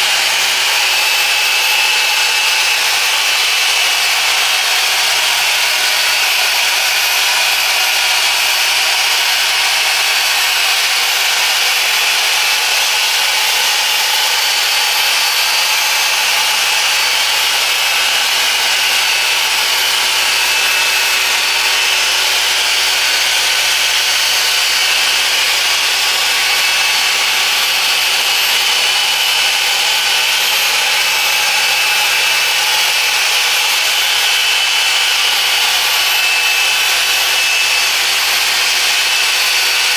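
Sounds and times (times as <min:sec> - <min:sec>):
machine polisher whirring on glass: 0:00.0 - 0:39.9.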